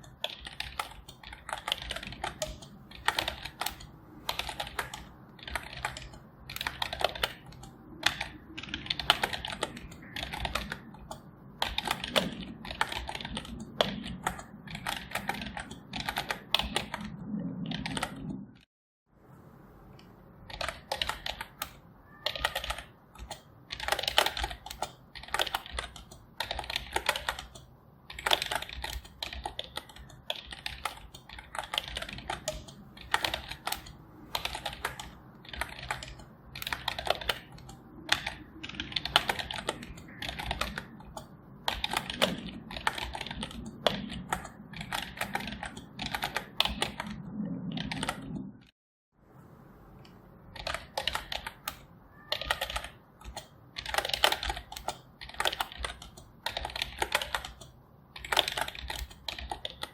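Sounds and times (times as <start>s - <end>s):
typing on computer keyboard: 0.0s - 18.6s, 20.4s - 48.6s, 50.5s - 59.9s.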